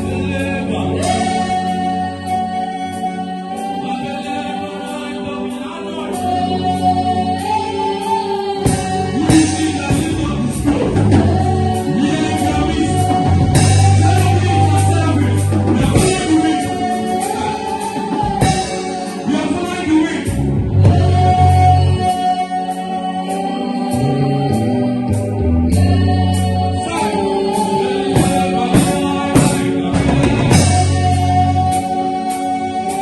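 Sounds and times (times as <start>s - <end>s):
bass and fuller accompaniment: 0.0s - 33.0s
gospel worship music with singing: 0.0s - 33.0s.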